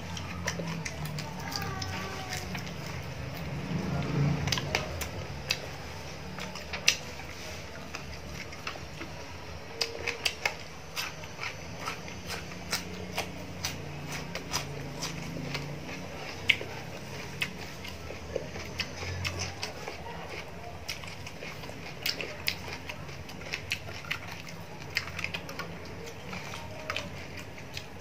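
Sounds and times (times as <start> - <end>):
person chewing close up: 0.0 - 28.0.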